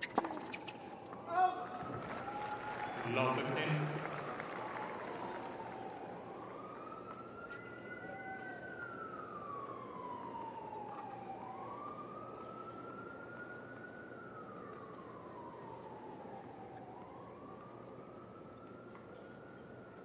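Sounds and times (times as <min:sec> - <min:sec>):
siren wailing: 0:00.1 - 0:20.0.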